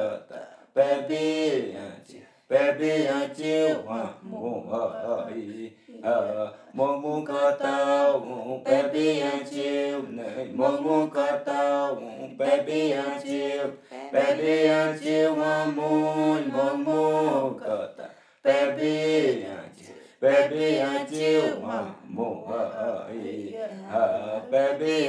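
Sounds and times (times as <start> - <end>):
unaccompanied voices chanting: 0.0 - 25.0.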